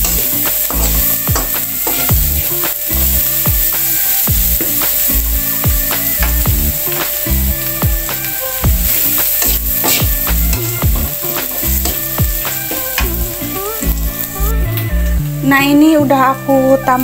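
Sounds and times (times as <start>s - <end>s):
flower slices sizzling in oil: 0.0s - 17.0s
music with bass beat: 0.0s - 17.0s.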